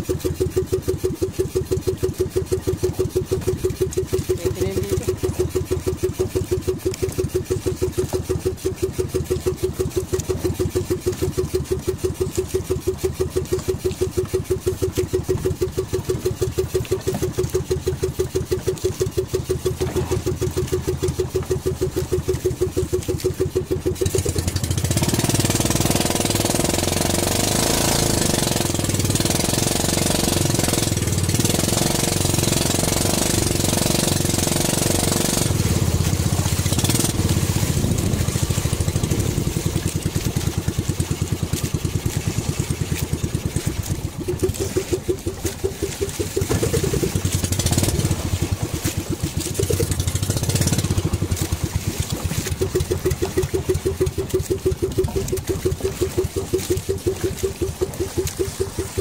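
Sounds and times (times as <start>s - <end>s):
boat engine running: 0.0s - 59.0s
rushing water: 0.0s - 59.0s
wind: 0.0s - 59.0s.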